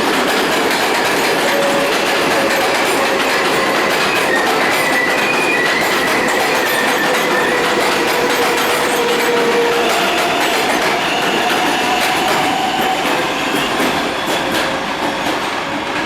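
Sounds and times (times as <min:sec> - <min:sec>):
rush of train cars: 0:00.0 - 0:16.0
train motor whine: 0:00.3 - 0:15.6.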